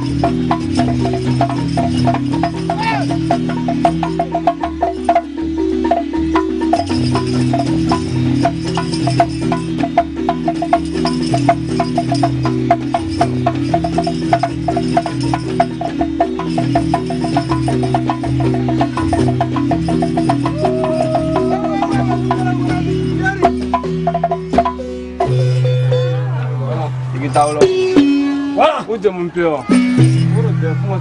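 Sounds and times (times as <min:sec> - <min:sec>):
wooden xylophone played fast: 0:00.0 - 0:26.4, 0:27.2 - 0:29.0, 0:29.6 - 0:31.0.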